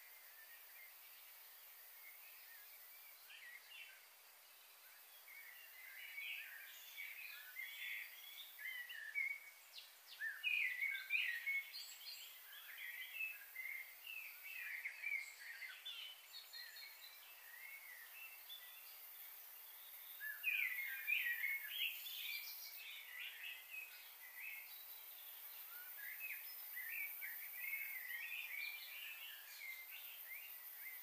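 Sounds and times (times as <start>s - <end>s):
faint background hiss: 0.0s - 31.0s
small birds chirping: 0.0s - 31.0s.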